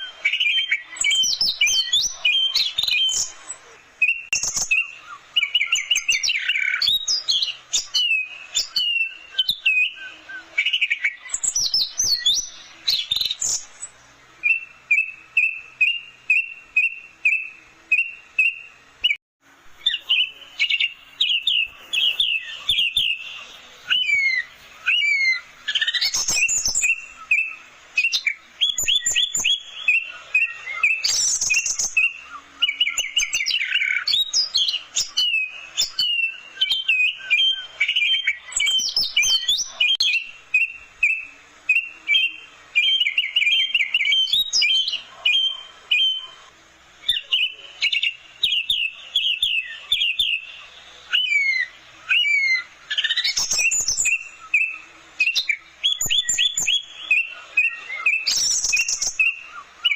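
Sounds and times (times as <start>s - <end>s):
thrush singing whistled song: 0.0s - 59.9s.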